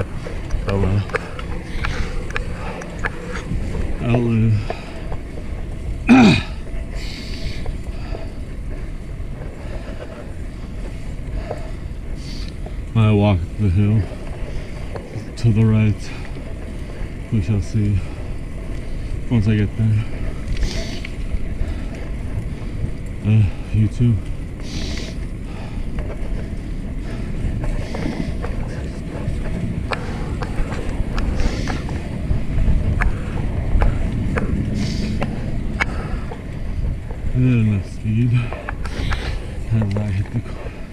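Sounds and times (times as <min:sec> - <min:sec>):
bicycle tyre noise: 0:00.0 - 0:40.9
wind rumble on microphone: 0:00.0 - 0:40.9.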